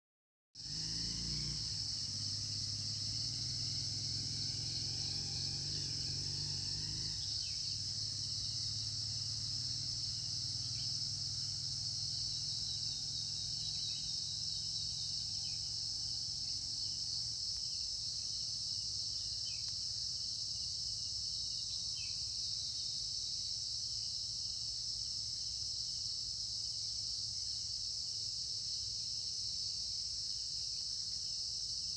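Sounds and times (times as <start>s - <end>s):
insects trilling: 0.6s - 31.9s.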